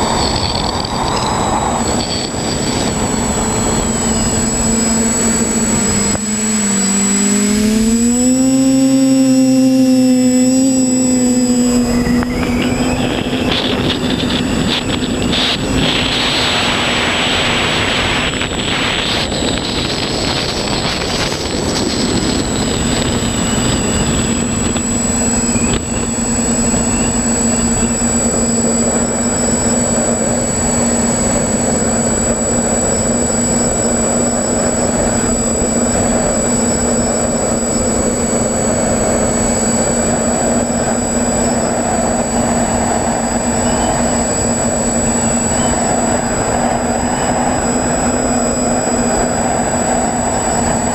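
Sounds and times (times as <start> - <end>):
quadcopter motors and propellers: 0.0 - 50.9
wind noise: 0.0 - 50.9.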